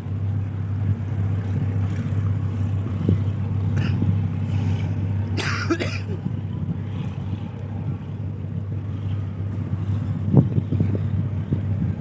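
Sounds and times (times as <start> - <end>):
ship diesel engines droning: 0.0 - 12.0.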